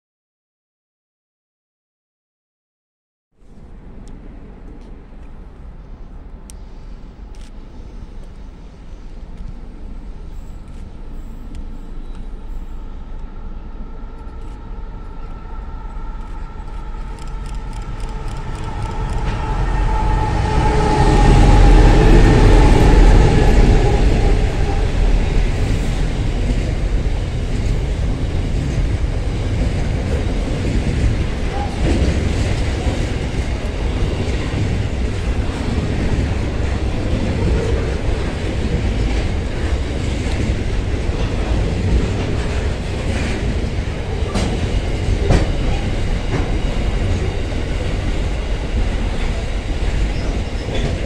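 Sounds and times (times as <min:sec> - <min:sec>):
diesel locomotive engine drone: 0:03.4 - 0:51.0
freight wagons rumbling past: 0:03.5 - 0:51.0.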